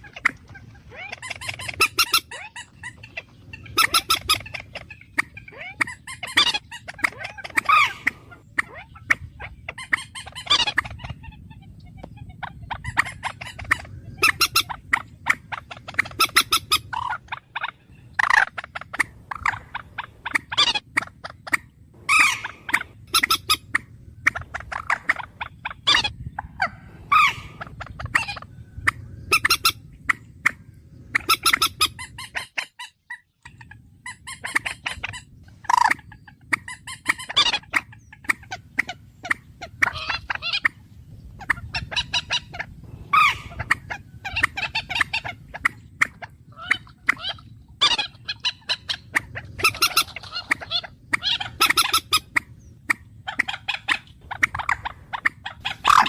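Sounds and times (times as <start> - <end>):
bird calls: 0.0 - 56.0.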